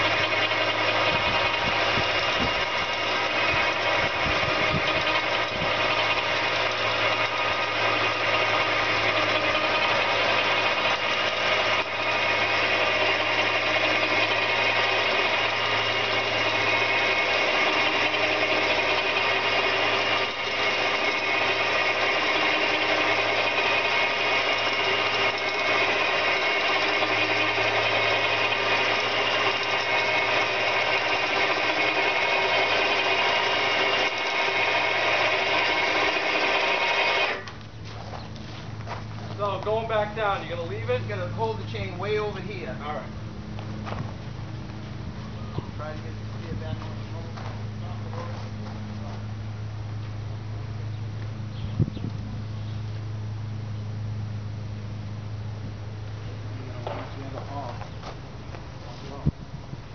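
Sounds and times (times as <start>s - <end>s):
engine-driven winch running: 0.0s - 51.8s.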